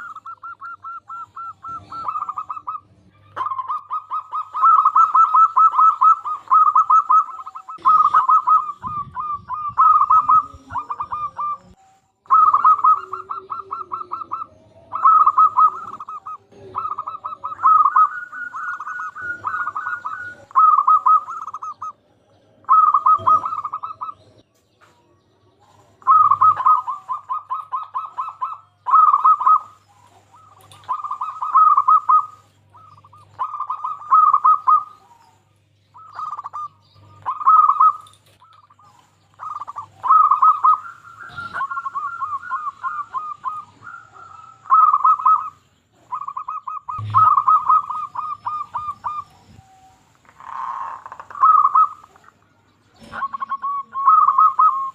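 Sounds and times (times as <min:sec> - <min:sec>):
dove cooing: 0:00.0 - 0:24.8, 0:25.5 - 0:54.9.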